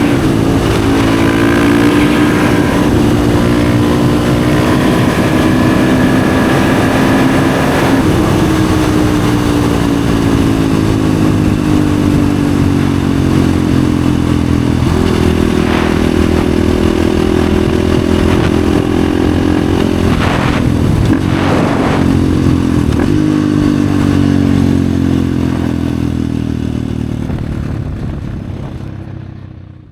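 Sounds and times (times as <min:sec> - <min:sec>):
motorcycle engine: 0:00.0 - 0:29.9.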